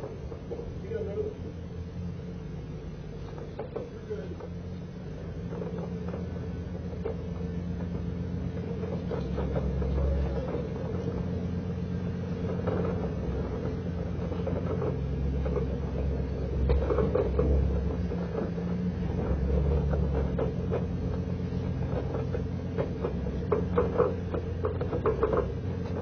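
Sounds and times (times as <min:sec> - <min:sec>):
rattles and knocks: 0:00.0 - 0:02.2, 0:02.9 - 0:26.0
pickup truck engine running: 0:00.0 - 0:26.0.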